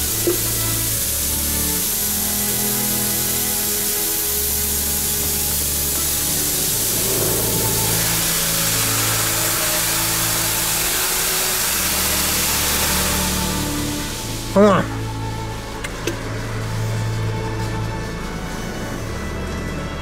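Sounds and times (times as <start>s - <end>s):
water spray hissing: 0.0s - 19.6s
background music with held notes: 0.0s - 20.0s.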